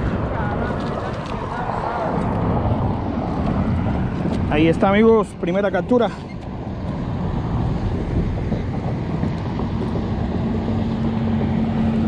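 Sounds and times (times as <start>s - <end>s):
engine hum: 0.0s - 12.0s
wind rumbling on microphone: 0.0s - 12.0s.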